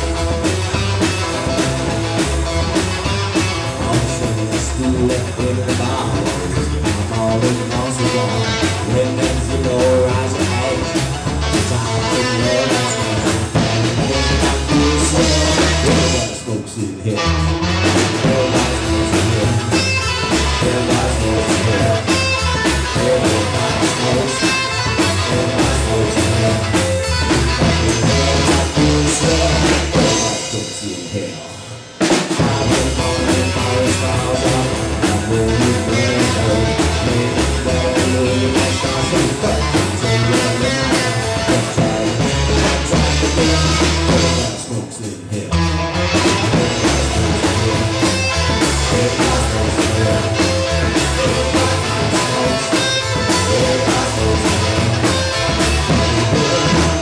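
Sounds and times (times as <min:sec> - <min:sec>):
upright double bass: 0:00.0 - 0:30.4, 0:32.4 - 0:57.0
drum kit: 0:00.0 - 0:57.0
electric guitar: 0:00.0 - 0:57.0.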